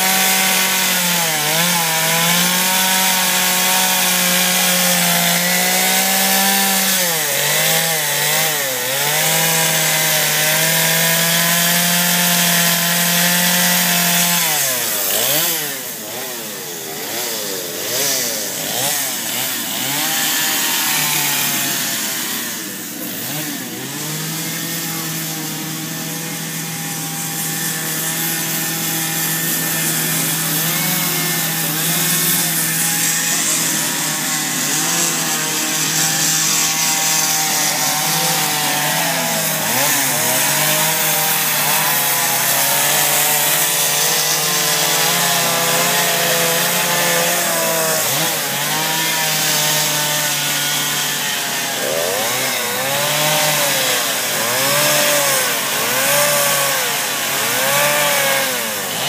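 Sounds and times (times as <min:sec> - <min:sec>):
chainsaws carving wood: 0:00.0 - 0:59.0.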